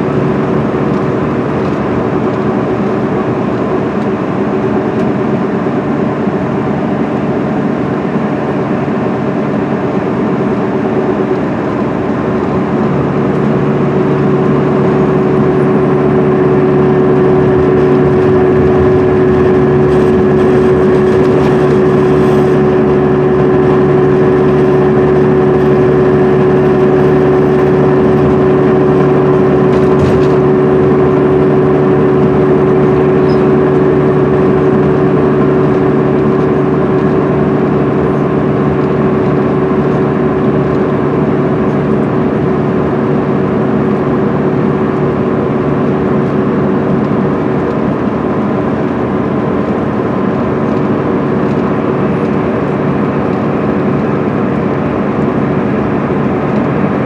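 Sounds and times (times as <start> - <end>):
diesel engine cruising: 0.0 - 57.0
tyre and road noise: 10.1 - 57.0.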